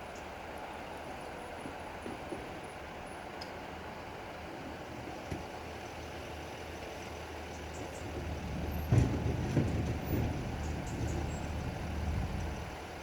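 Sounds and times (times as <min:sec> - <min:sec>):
low engine hum: 0:00.0 - 0:13.0
road vehicle passing: 0:00.0 - 0:13.0.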